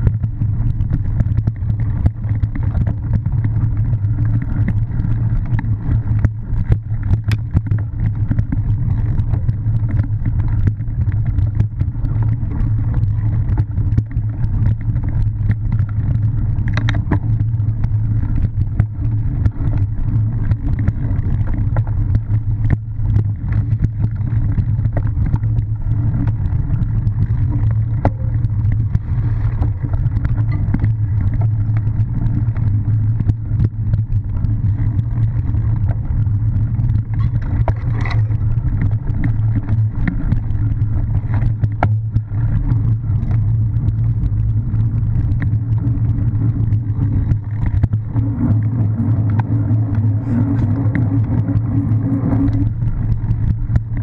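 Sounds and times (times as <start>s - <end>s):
bike knocks and rattles: 0.0s - 43.4s
wind and vibration rumble: 0.0s - 54.0s.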